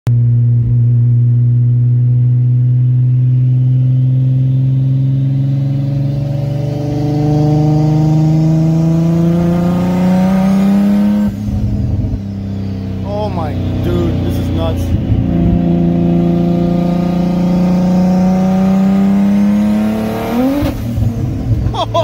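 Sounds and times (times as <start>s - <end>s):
car engine pulling from inside cabin: 2.6s - 22.0s.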